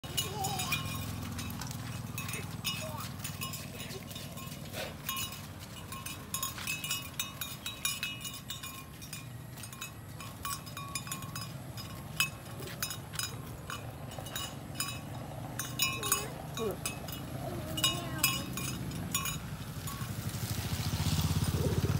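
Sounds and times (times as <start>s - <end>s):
cattle bells clinking: 0.0s - 21.9s.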